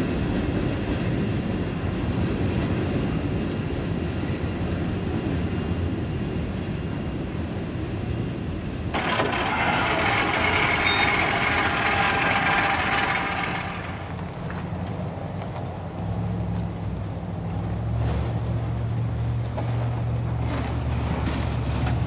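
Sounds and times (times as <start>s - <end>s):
freight train rumbling: 0.0s - 22.0s
wheel-on-rail noise: 0.0s - 22.0s.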